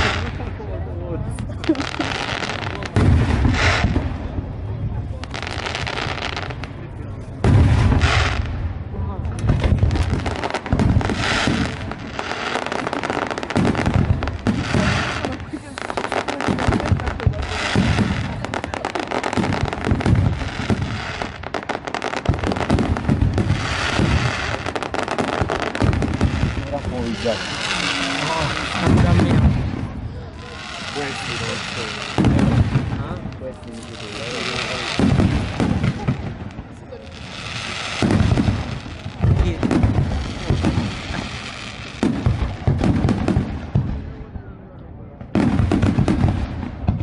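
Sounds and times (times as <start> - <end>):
fireworks booming: 0.0 - 47.0
fireworks crackling and popping: 0.0 - 47.0.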